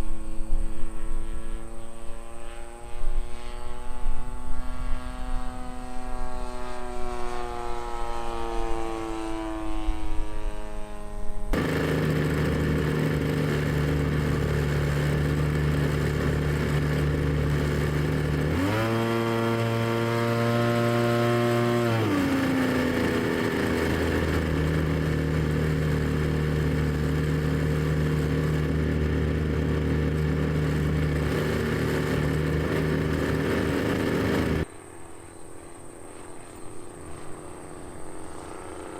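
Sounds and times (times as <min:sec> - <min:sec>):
model airplane engine running: 0:00.0 - 0:38.9.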